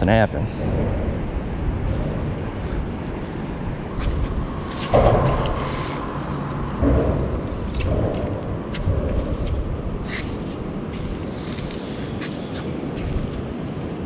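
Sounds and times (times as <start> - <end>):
traffic rumbling on bridge: 0.0 - 14.0.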